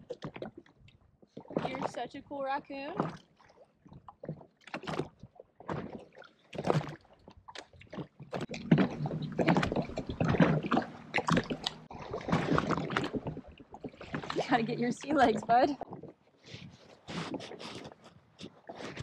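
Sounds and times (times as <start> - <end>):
water sloshing against a hull: 0.0 - 19.0.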